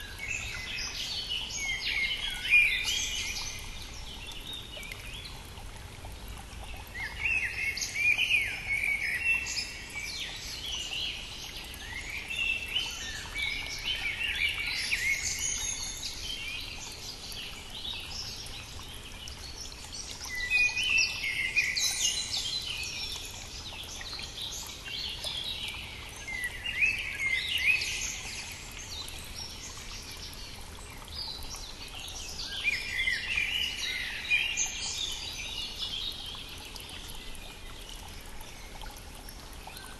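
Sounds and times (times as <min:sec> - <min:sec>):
faint brook rushing: 0:00.0 - 0:39.9
songbirds singing: 0:00.0 - 0:39.9.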